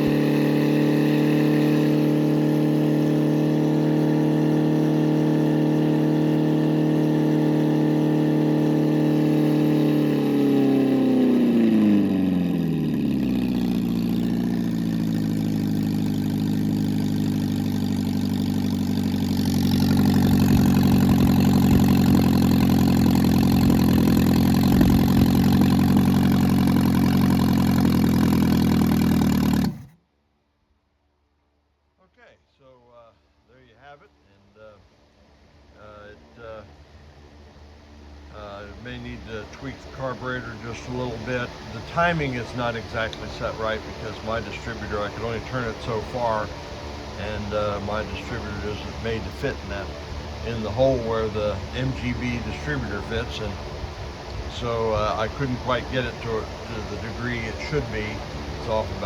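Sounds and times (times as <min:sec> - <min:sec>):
unmuffled car engine idling: 0:00.0 - 0:30.0, 0:33.5 - 0:59.0.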